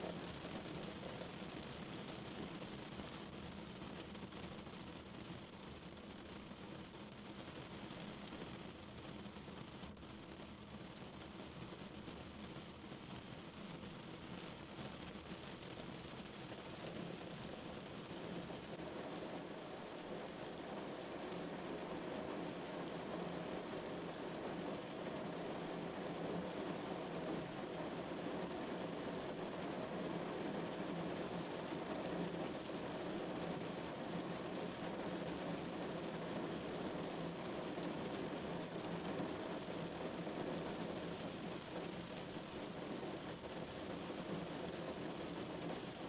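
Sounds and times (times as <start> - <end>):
rain falling on a car: 0.0 - 46.0.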